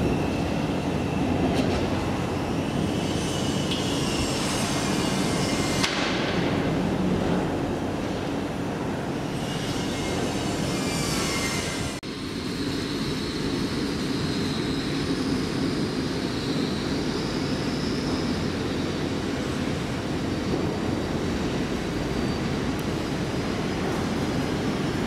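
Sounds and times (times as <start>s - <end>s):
train wheel squeal: 0.0s - 8.2s, 9.1s - 25.0s
train rumbling hum: 0.0s - 25.0s.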